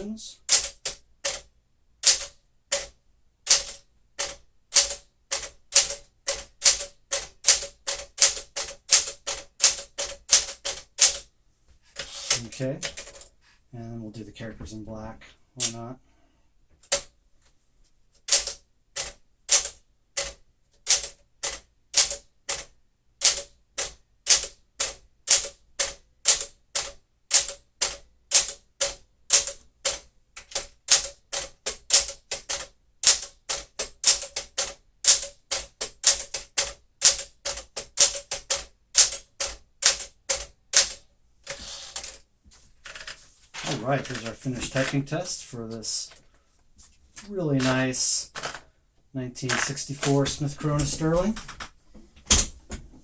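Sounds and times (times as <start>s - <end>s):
typewriter keystrokes: 0.0s - 11.3s, 12.0s - 13.3s, 18.2s - 42.2s, 42.8s - 45.0s, 47.2s - 48.6s, 49.4s - 51.7s.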